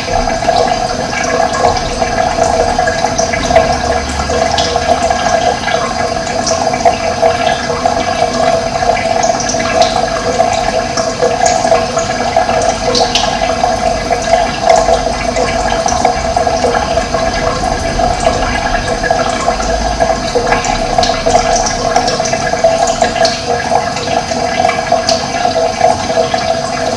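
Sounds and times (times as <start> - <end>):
running water rushing: 0.0 - 26.9.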